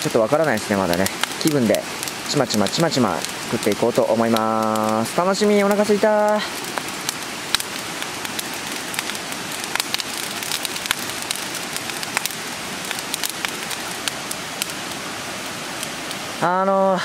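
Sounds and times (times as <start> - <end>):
campfire crackling and popping: 0.0 - 17.0
stream rushing: 0.0 - 17.0.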